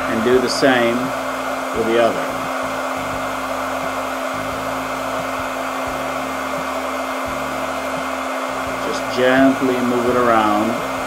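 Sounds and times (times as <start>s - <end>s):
heat gun blowing hot air: 0.0s - 11.0s.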